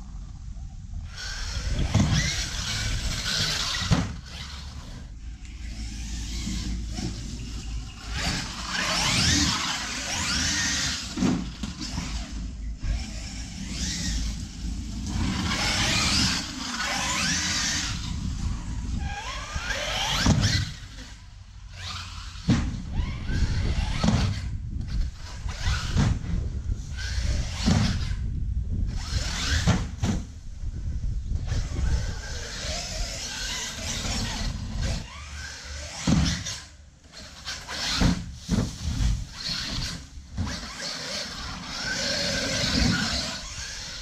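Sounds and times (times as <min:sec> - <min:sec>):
tyres on the ground: 0:01.0 - 0:28.3, 0:31.4 - 0:44.0
rc car motor whining: 0:01.0 - 0:30.6, 0:31.2 - 0:44.0.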